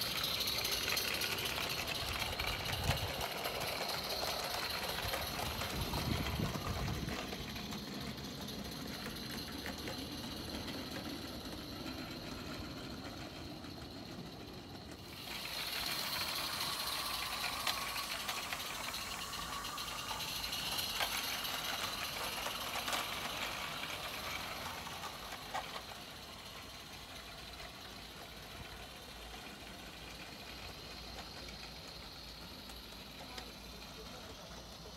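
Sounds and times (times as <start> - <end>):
low rumble of passing train: 0.0 - 34.9
model train wheels rattling: 0.0 - 34.9.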